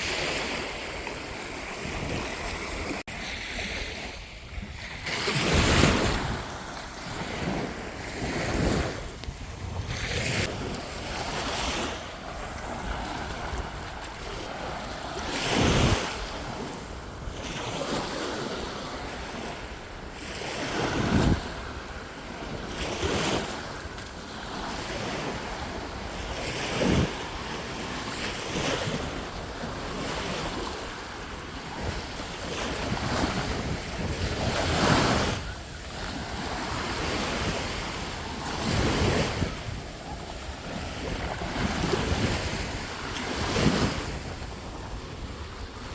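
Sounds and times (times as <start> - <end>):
waves breaking on shore: 0.0 - 45.9
wind buffeting microphone: 0.0 - 45.9.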